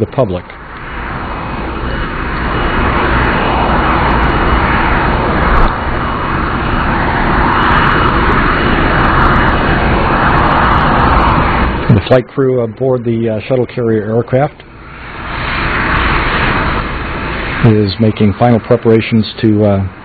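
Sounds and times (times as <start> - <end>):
high whine: 0.0 - 20.0
jet engines running: 0.0 - 20.0.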